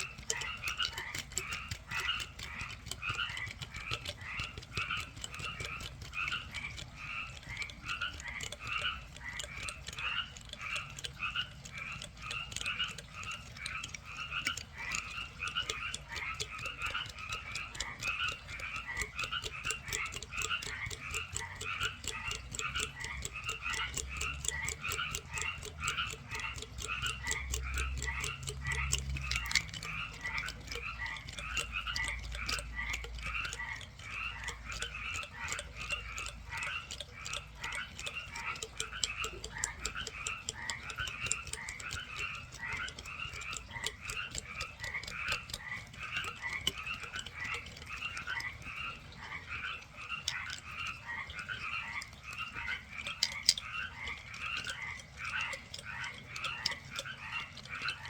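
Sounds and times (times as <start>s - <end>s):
chorus of chirping animals: 0.0s - 58.0s
fast clicking: 0.0s - 58.0s.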